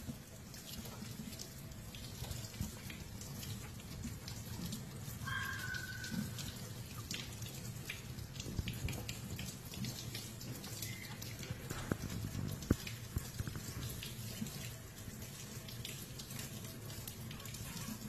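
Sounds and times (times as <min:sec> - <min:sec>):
faucet water splashing into sink: 0:00.0 - 0:18.0.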